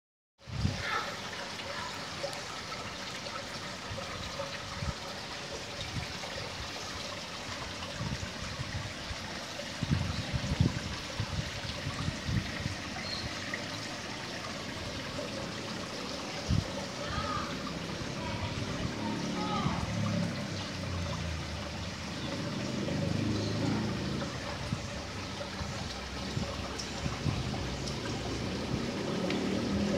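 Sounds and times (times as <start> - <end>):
trickling water: 0.4 - 29.9.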